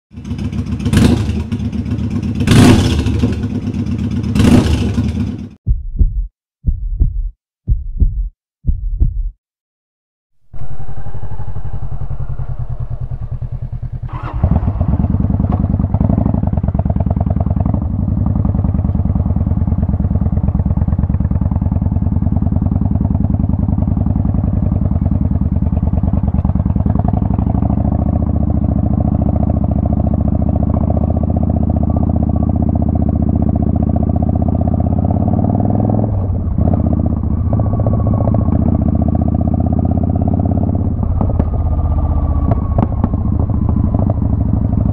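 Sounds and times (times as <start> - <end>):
motorcycle engine running: 0.1 - 5.8, 10.6 - 44.9.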